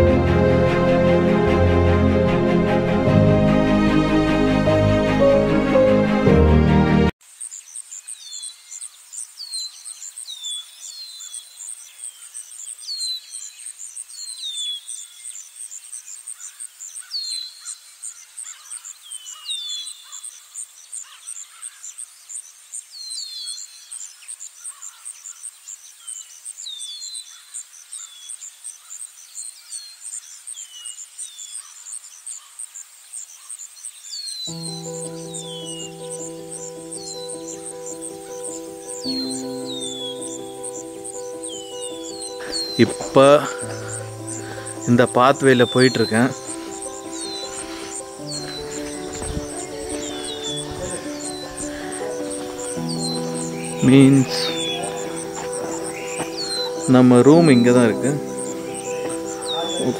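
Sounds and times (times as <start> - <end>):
bird chirping: 7.2 - 59.9
insects trilling: 7.2 - 59.9.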